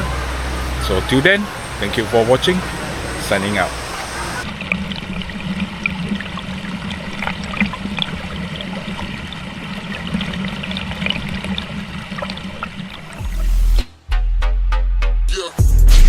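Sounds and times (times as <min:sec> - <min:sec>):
river water splashing over rocks: 0:00.0 - 0:13.5.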